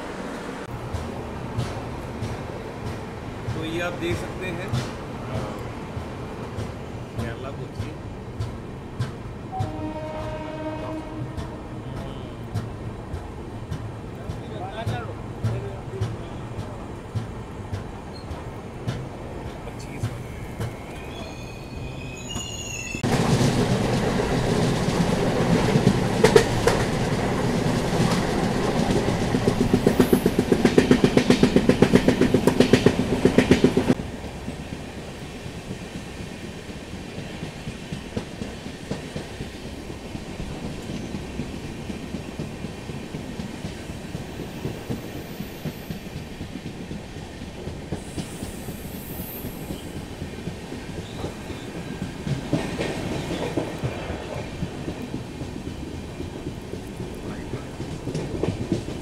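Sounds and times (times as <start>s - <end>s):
train wheels clacking on rails: 0.0s - 59.0s.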